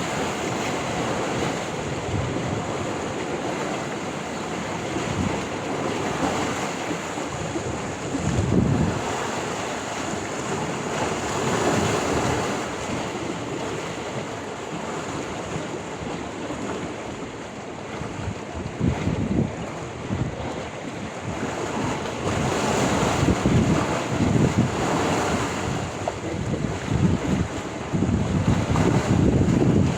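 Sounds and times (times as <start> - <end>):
sea waves washing in: 0.0 - 29.9
wind buffeting microphone: 0.0 - 29.9.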